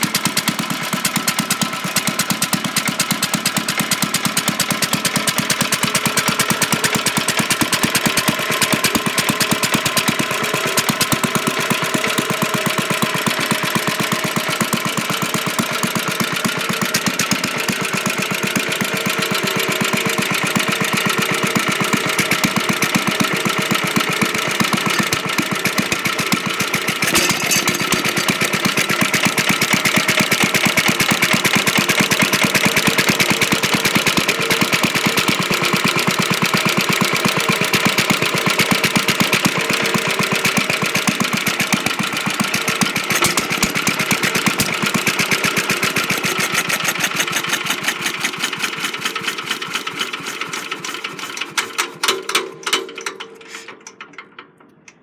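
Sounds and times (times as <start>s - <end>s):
stationary engine running: 4.2s - 52.0s.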